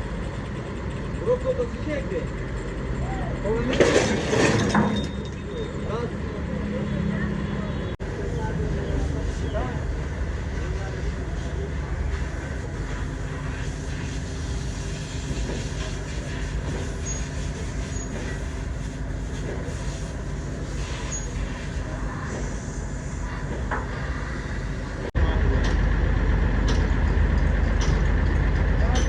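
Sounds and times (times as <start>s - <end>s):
low machine rumble: 0.0s - 29.0s.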